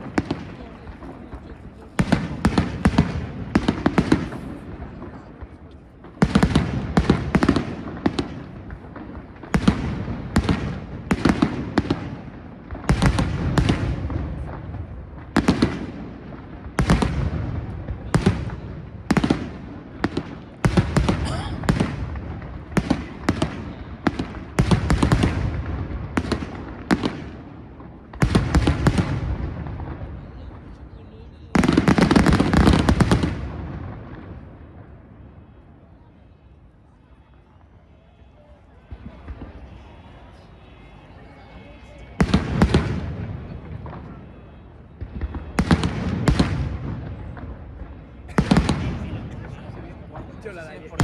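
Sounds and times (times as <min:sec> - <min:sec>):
fireworks crackle: 0:00.0 - 0:35.2, 0:42.1 - 0:51.0
fireworks bangs and cracks: 0:00.0 - 0:35.8, 0:38.8 - 0:40.4, 0:42.0 - 0:51.0.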